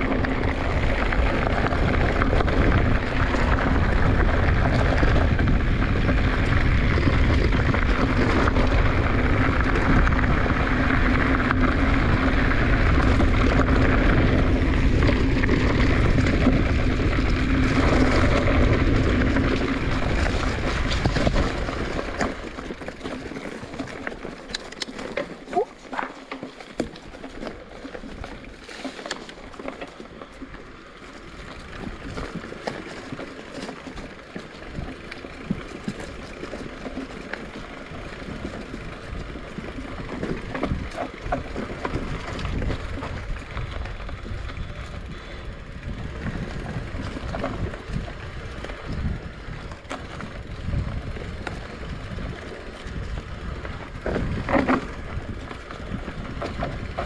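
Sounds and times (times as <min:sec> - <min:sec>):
bike frame rattling and knocking: 0:00.0 - 0:57.0
tyres crunching over dirt: 0:00.0 - 0:57.0.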